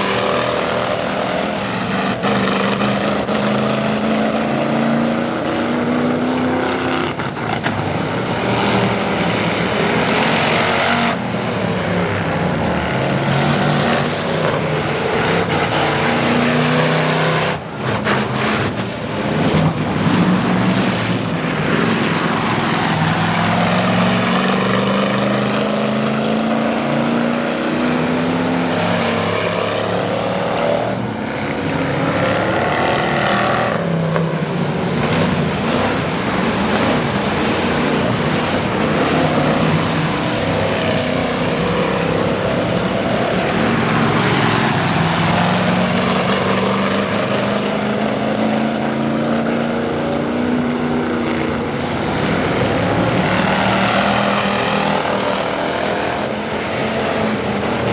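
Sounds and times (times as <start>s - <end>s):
race car engines passing: 0.0s - 57.9s.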